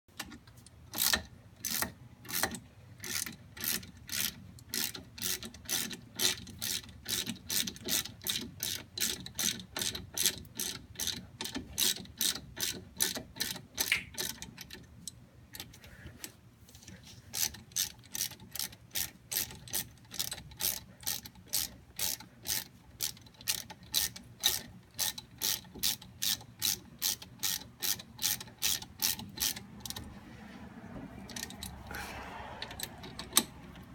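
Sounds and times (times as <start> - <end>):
socket ratchet clicking: 0.2 - 15.8, 17.4 - 30.0, 32.6 - 33.9.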